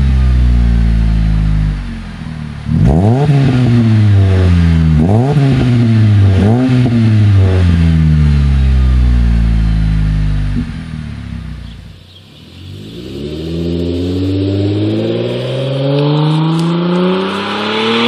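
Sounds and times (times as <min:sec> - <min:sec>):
car engine revving: 0:00.0 - 0:18.0
car pulling away: 0:00.0 - 0:18.0.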